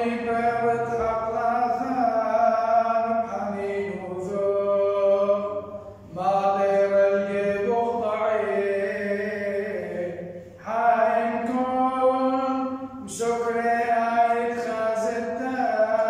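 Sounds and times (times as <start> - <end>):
man chanting a hymn: 0.0 - 16.0.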